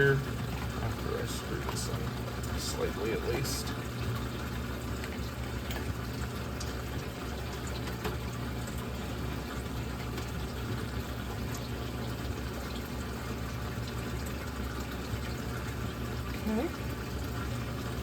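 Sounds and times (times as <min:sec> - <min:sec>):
low pump hum: 0:00.0 - 0:18.0
water flowing: 0:00.0 - 0:18.0.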